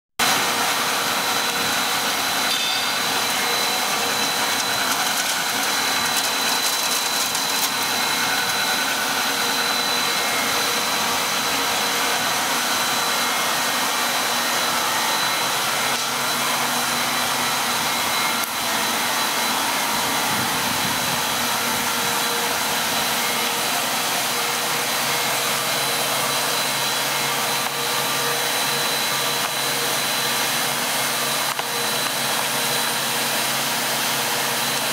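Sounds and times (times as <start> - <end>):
machine running steadily: 0.2 - 34.9
constant high whine: 0.3 - 34.9.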